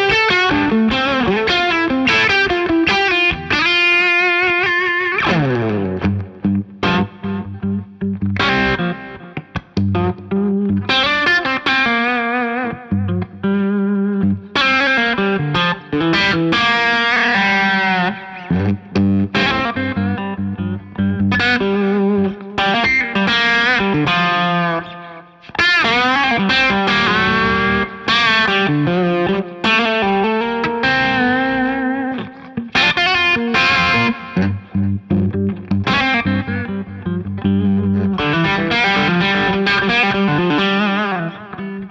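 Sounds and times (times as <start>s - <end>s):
distorted electric guitar lead: 0.0s - 41.9s.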